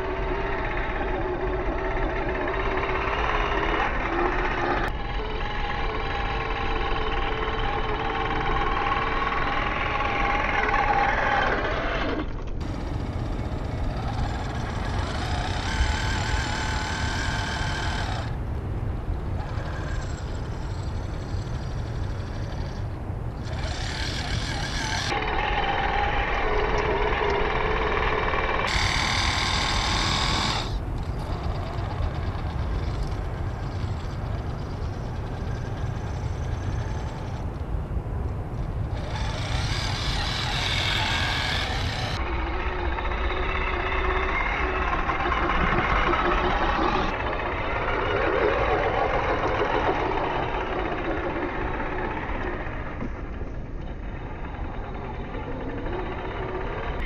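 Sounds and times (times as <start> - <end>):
electric motor and gears whining: 0.0 - 57.0.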